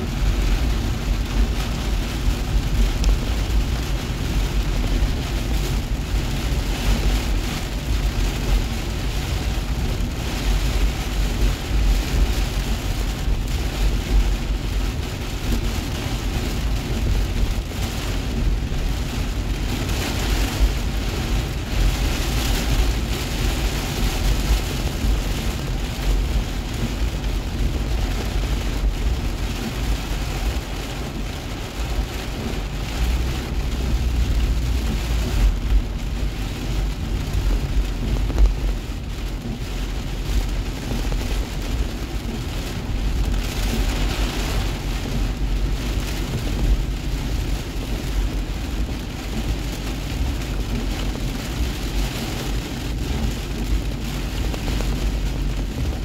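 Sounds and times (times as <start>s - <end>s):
car and tyres rumbling: 0.0s - 56.0s
heavy rain drumming on car roof: 0.0s - 56.0s.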